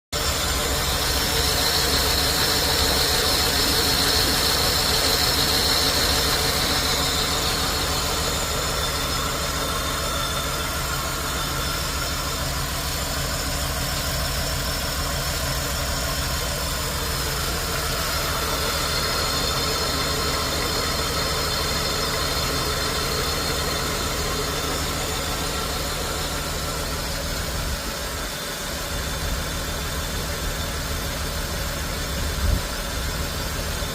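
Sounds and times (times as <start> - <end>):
car engine idling roughly: 0.1 - 33.9
high whine: 0.2 - 33.3.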